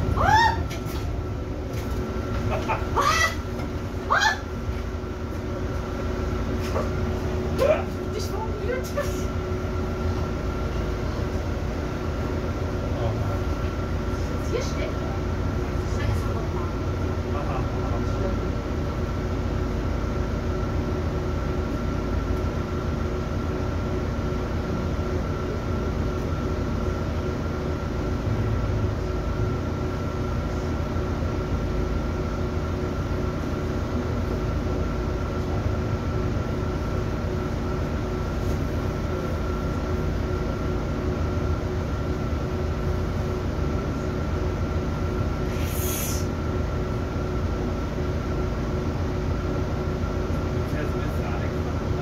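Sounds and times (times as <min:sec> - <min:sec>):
bus engine and road noise drone: 0:00.0 - 0:52.0.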